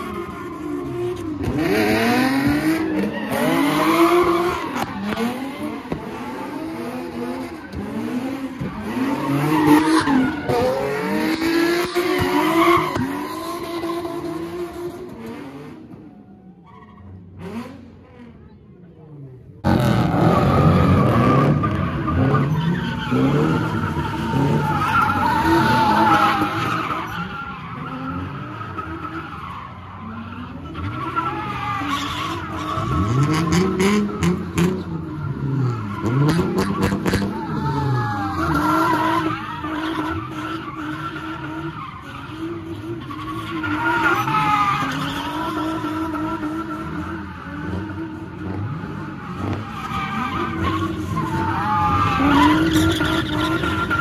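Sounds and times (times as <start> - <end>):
car engine revving: 0.0 - 16.0, 19.6 - 54.0
tires squealing: 0.0 - 54.0.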